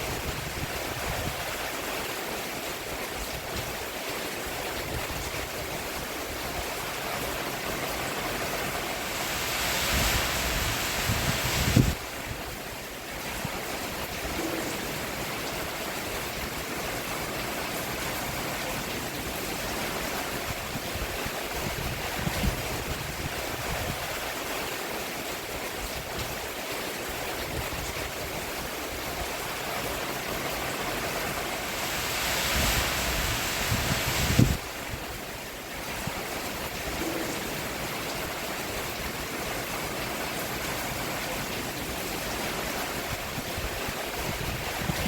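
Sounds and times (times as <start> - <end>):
rain on a roof: 0.0 - 45.0.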